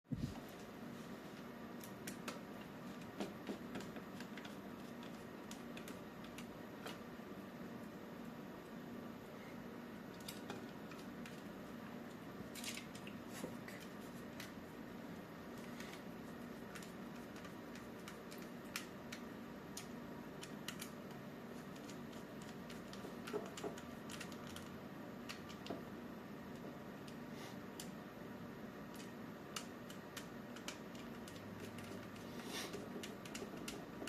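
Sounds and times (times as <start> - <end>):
steady low hum: 0.1 - 34.0.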